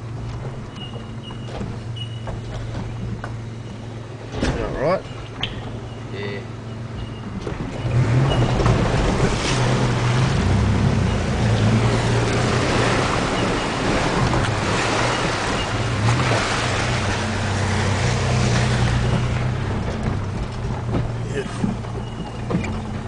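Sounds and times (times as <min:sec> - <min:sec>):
engine running at low revs: 0:00.0 - 0:23.0
water splashing against vehicle: 0:00.0 - 0:23.0.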